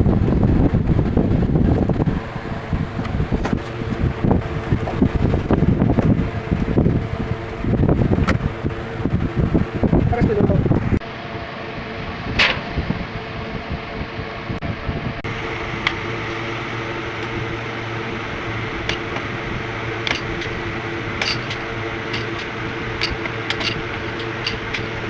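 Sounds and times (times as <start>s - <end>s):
air cooler fan humming: 0.0s - 25.0s.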